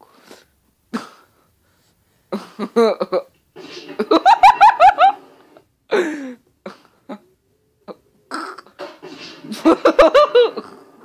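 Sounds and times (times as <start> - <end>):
noisy hiss: 0.0 - 11.0.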